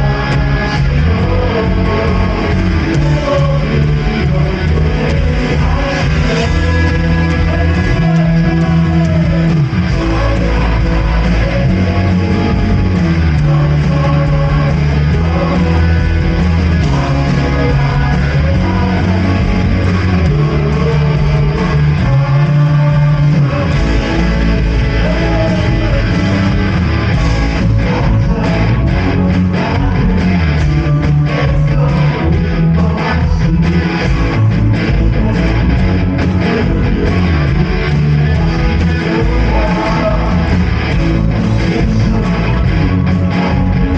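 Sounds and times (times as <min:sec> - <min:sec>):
drums: 0:00.0 - 0:43.9
worship band playing: 0:00.0 - 0:43.9.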